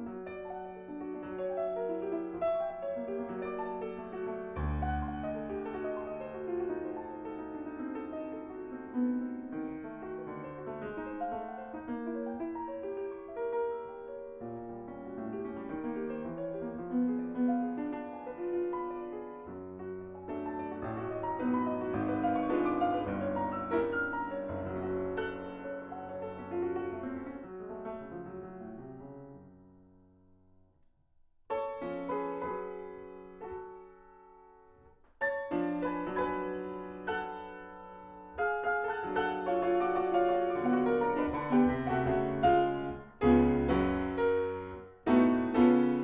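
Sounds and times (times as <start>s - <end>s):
solo grand piano: 0.0s - 46.0s.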